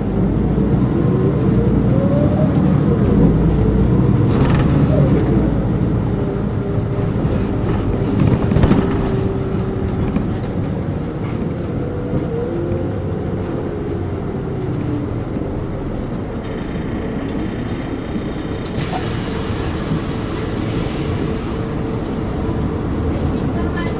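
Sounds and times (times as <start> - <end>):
bus diesel engine running: 0.0 - 23.9.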